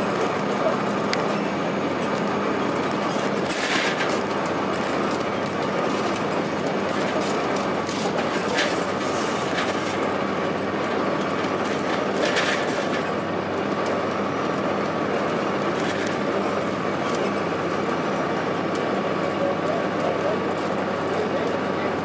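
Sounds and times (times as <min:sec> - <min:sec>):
bus body rattling: 0:00.0 - 0:22.0
bus diesel engine running: 0:00.0 - 0:22.0
road noise: 0:00.0 - 0:22.0.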